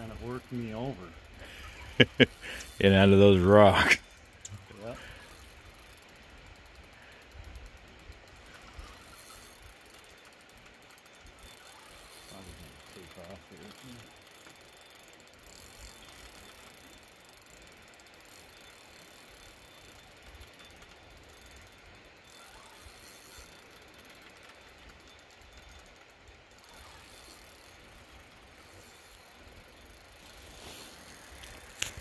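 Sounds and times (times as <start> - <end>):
fishing reel ticking: 0.0 - 32.0.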